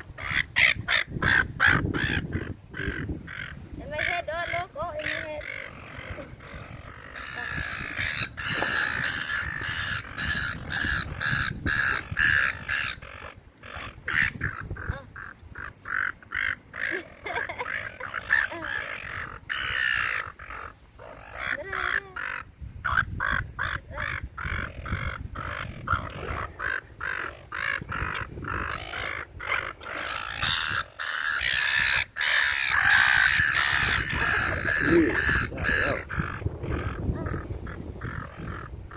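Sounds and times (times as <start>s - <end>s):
seagulls squawking: 0.0s - 38.9s.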